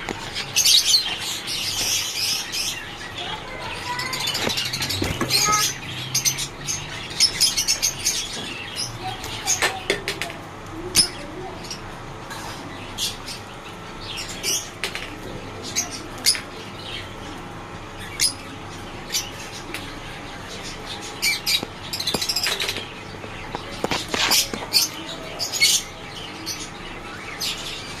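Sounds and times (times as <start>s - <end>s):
birds chirping and squawking: 0.0s - 28.0s.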